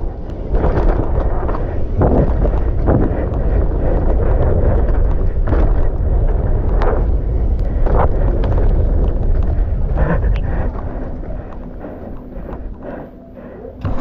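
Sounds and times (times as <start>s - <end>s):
bike knocking and rattling: 0.0s - 13.2s, 13.8s - 14.0s
wind on microphone: 0.0s - 14.0s.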